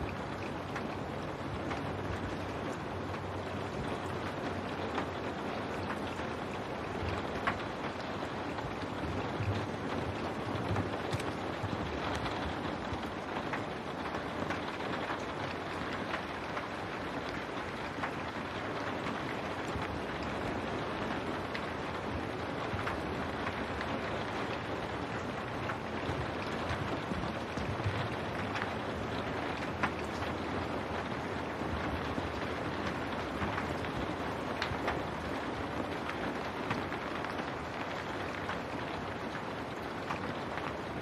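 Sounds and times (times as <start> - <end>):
rain against window glass: 0.0 - 41.0.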